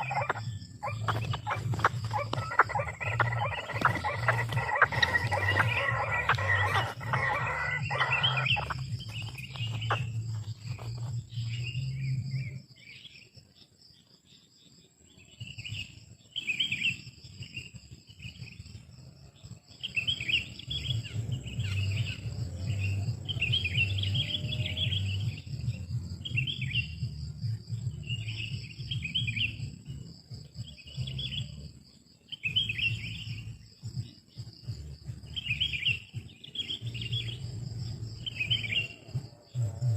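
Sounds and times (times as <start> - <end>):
high insect drone: 0.0 - 13.2, 13.8 - 39.9
bird chirping: 0.0 - 39.9.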